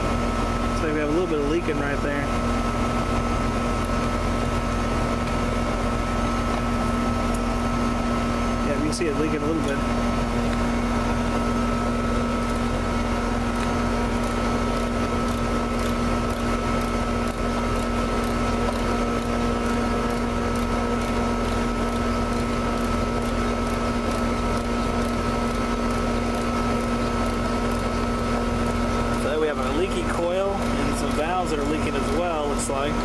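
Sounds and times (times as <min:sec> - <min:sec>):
air conditioner unit humming: 0:00.0 - 0:33.0.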